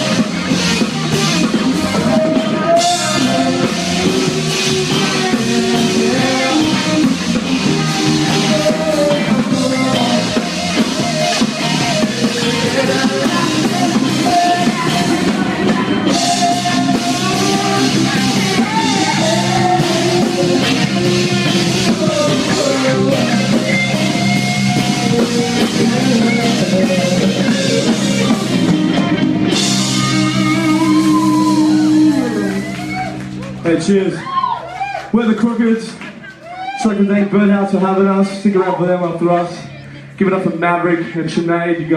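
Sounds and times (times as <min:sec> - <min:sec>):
rock band playing live: 0:00.0 - 0:40.4.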